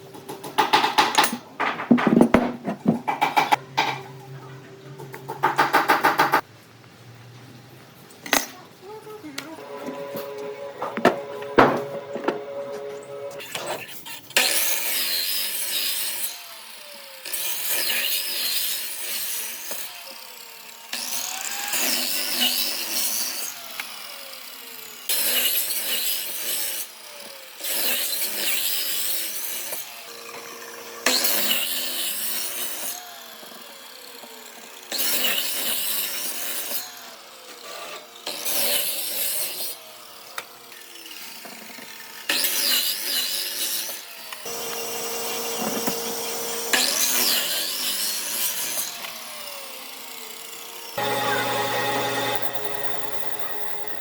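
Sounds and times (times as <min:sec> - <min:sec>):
power tool cutting wood: 0:09.6 - 0:54.0.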